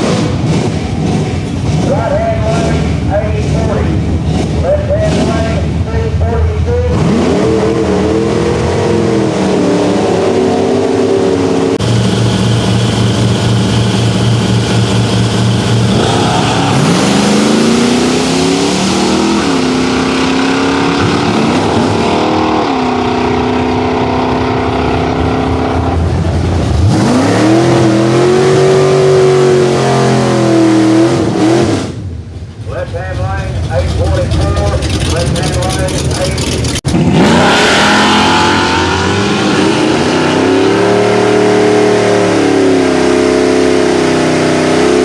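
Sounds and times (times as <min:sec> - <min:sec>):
drag racing car engines revving: 0:00.0 - 0:45.0.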